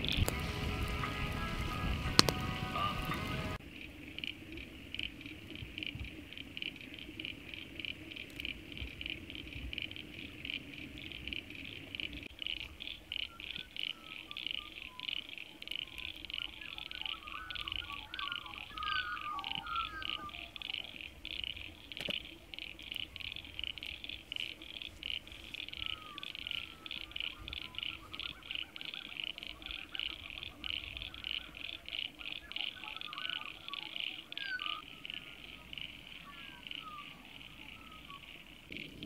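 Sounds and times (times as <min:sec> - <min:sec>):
frogs calling: 0:00.0 - 0:39.0
bird chirps: 0:05.8 - 0:39.0.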